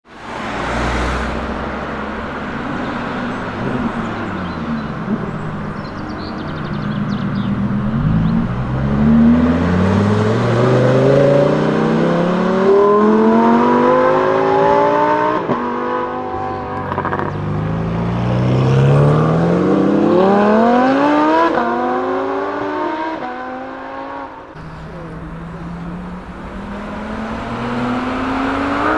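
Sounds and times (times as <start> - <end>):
sports car engine accelerating: 0.3 - 23.4, 24.6 - 28.9.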